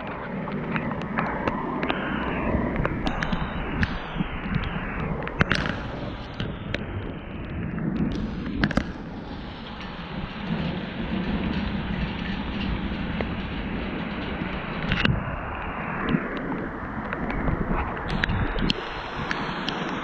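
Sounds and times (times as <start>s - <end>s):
rain and wind on microphone: 0.0s - 20.0s
raindrops tapping: 0.0s - 20.0s.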